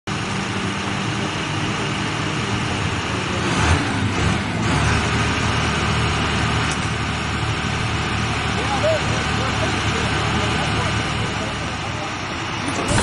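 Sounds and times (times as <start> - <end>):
drill rig engine running: 0.1 - 13.0.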